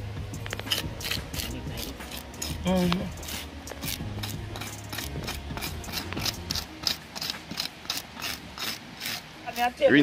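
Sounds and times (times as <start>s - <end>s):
knife scraping fish scales: 0.5s - 9.7s.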